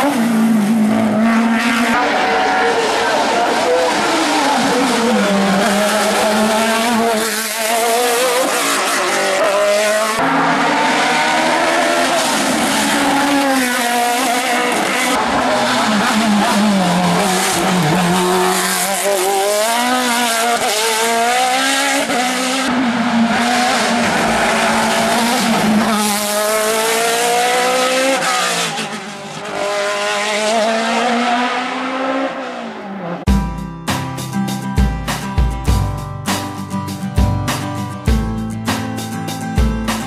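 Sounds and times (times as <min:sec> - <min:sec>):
race car engine revving: 0:00.0 - 0:33.3.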